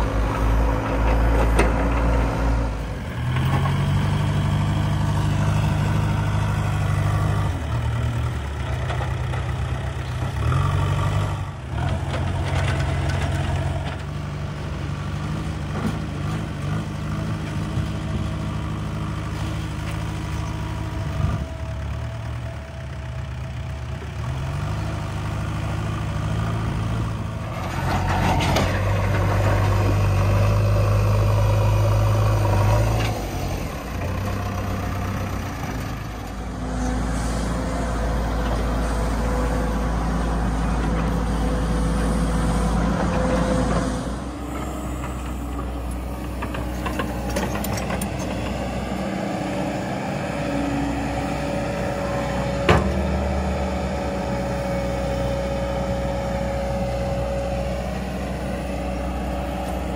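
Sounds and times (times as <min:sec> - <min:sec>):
diesel engines digging under load: 0:00.0 - 0:59.9.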